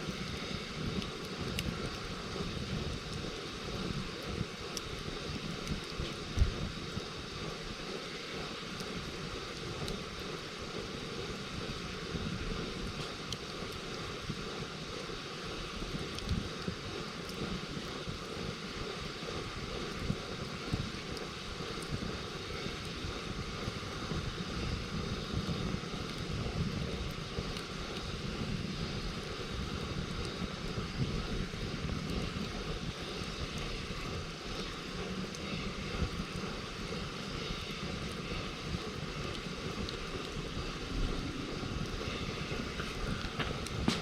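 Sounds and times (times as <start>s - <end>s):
campfire crackles: 0.0s - 44.0s
steady low rumble: 0.0s - 44.0s.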